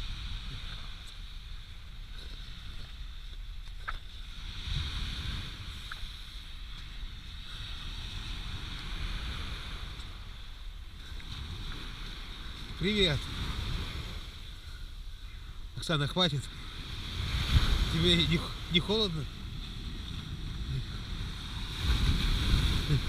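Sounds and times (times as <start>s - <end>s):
wind on microphone: 0.0s - 15.8s, 16.5s - 23.0s
sea waves on shore: 0.0s - 23.0s.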